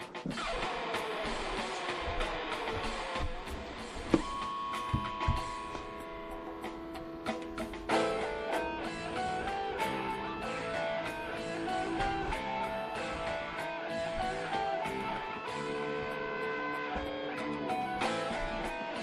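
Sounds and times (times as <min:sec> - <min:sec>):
guitar playing over chords: 0:00.0 - 0:19.0.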